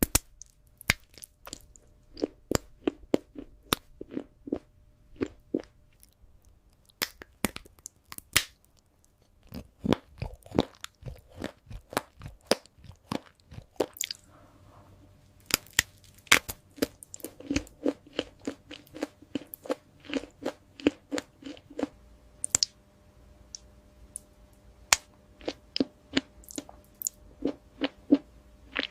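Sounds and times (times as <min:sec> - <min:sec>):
crunching and chewing sweets: 0:00.0 - 0:22.7, 0:24.9 - 0:28.9.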